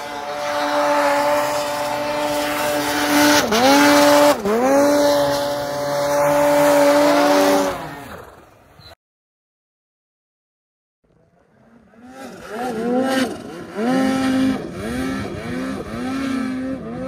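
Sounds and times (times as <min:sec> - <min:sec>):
snowmobile engine revving: 0:00.0 - 0:08.9, 0:11.2 - 0:17.0.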